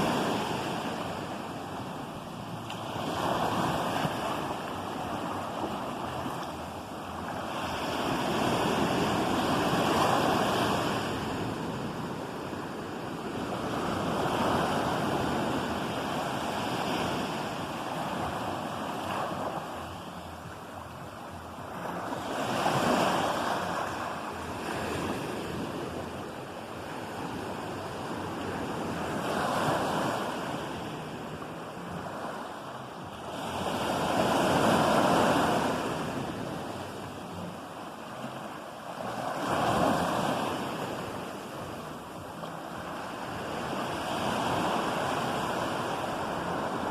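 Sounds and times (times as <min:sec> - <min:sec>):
ocean waves breaking: 0:00.0 - 0:46.9.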